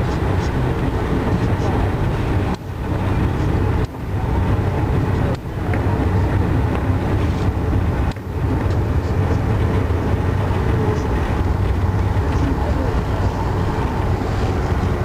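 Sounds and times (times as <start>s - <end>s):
train rumbling from inside: 0.0s - 15.0s.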